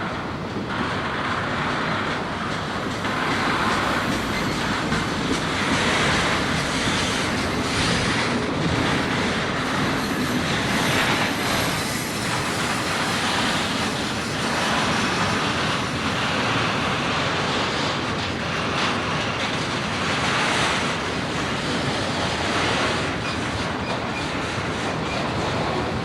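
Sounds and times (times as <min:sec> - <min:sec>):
train cars rolling past: 0:00.0 - 0:26.0.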